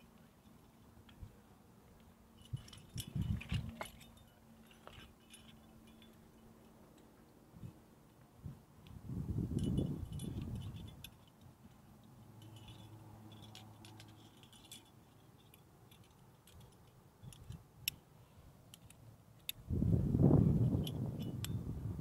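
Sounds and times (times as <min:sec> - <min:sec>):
climbing gear clinking: 0:00.0 - 0:07.7, 0:09.4 - 0:19.7.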